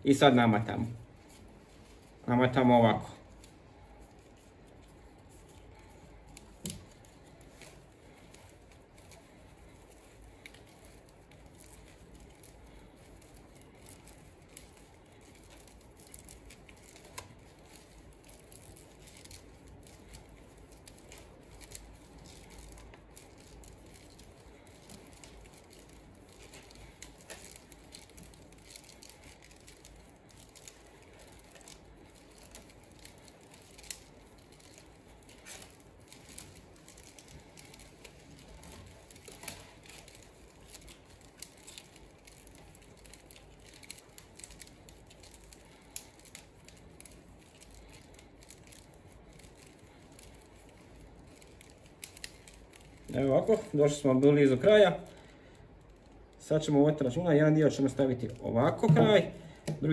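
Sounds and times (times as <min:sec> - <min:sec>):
trimmer line rustling and scraping: 0:00.7 - 0:55.4.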